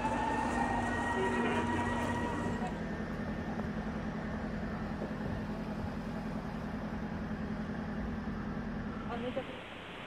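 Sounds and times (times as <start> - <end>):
low mechanical hum with rumble: 0.0 - 10.0.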